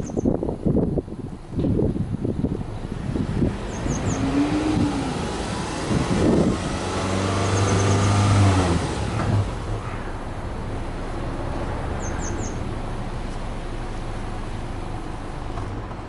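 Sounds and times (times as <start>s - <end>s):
car engine free-revving: 2.4s - 16.0s.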